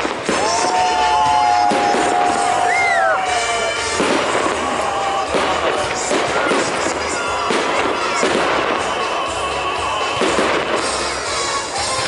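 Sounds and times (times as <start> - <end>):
firework bangs: 0.0 - 12.0
firework crackle and rumble: 0.0 - 12.0.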